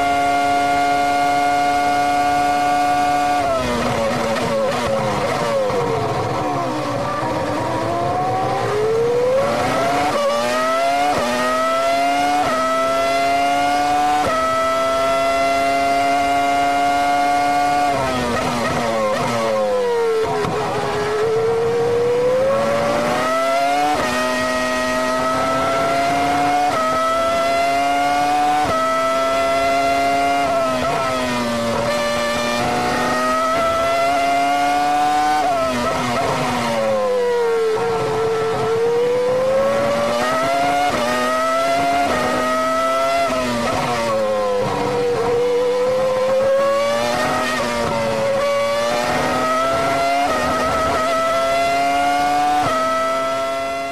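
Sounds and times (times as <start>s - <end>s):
racing car engine at full throttle: 0.0s - 53.9s.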